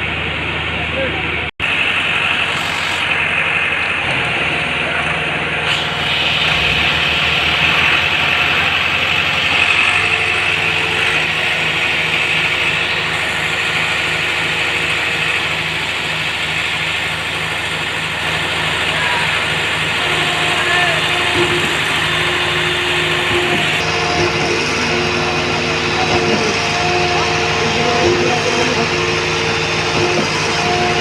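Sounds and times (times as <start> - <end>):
concrete mixer engine running: 0.0 - 31.0.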